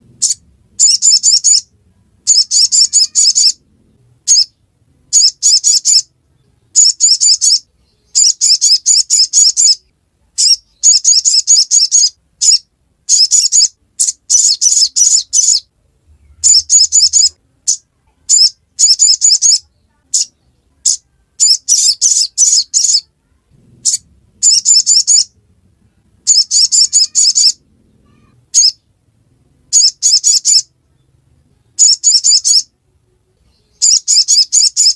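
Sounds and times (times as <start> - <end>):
bird high-pitched chattering song: 0.2 - 3.6, 4.2 - 6.1, 6.7 - 23.2, 23.8 - 25.4, 26.2 - 28.9, 29.7 - 32.8, 33.4 - 34.9.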